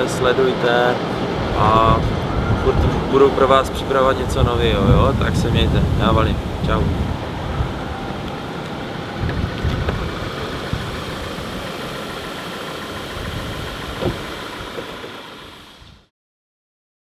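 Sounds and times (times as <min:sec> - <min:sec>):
car road and engine noise: 0:00.0 - 0:16.1.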